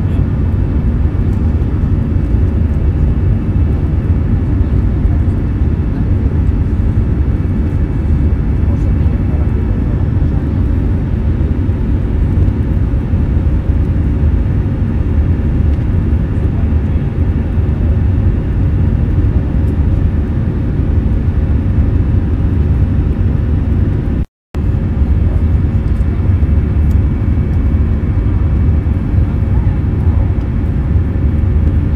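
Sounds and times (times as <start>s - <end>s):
airflow rumble: 0.0s - 31.9s
jet engine roar: 0.0s - 31.9s.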